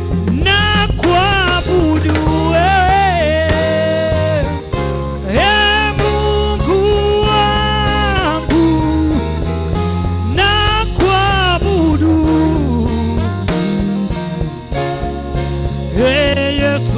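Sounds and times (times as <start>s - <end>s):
continuous bass: 0.0s - 16.9s.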